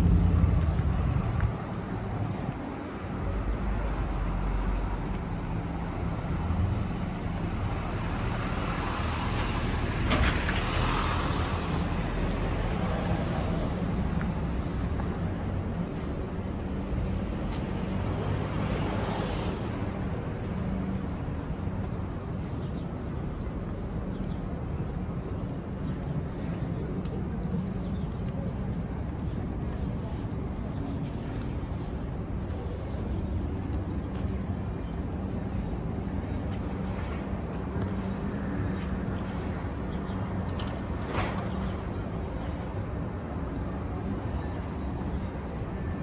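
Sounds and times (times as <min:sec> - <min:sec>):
passing traffic: 0:00.0 - 0:46.0
street traffic rumble: 0:00.0 - 0:46.0.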